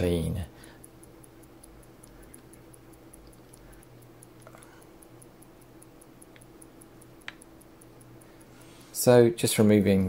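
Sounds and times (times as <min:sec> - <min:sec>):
faint high ticking: 0:00.0 - 0:10.0
low steady hum: 0:00.0 - 0:10.0
faint small clicks: 0:00.6 - 0:10.0.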